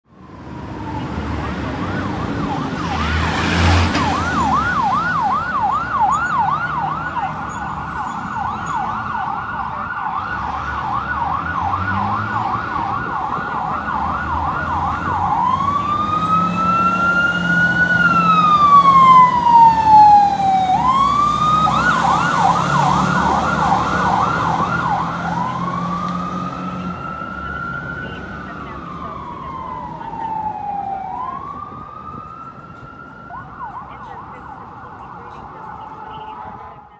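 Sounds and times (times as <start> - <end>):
fire engine siren yelp and wail: 0.0 - 36.9
truck engine passing: 0.2 - 36.5.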